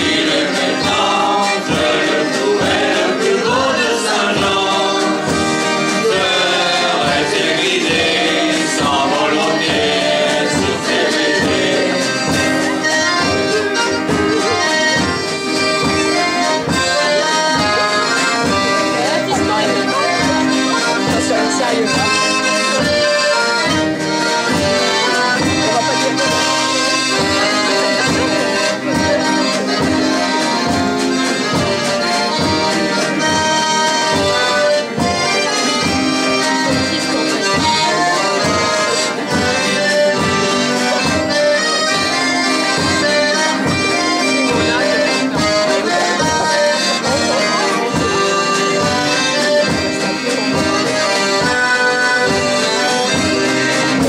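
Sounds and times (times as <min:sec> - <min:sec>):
accordion playing a tune: 0:00.0 - 0:54.0
steady beat: 0:00.0 - 0:54.0.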